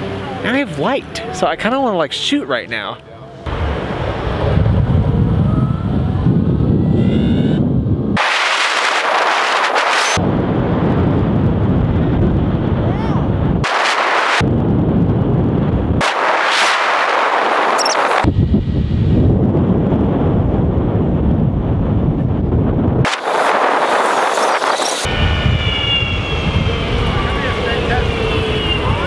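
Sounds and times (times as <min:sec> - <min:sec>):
wind buffeting microphone: 0:03.5 - 0:29.0.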